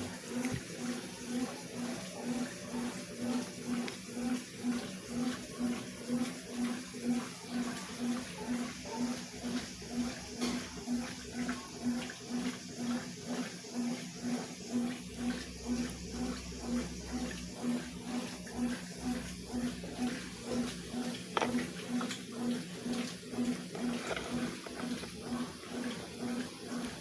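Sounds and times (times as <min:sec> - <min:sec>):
washing machine motor humming: 0:00.0 - 0:27.0
water sloshing in washer: 0:00.0 - 0:27.0.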